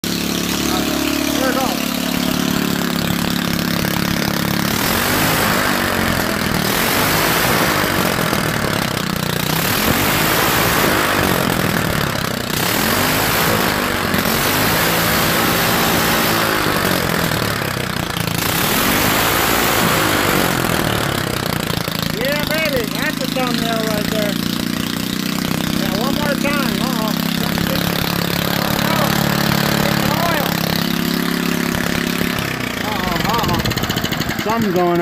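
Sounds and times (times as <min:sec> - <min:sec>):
single-cylinder engine revving: 0:00.0 - 0:35.0.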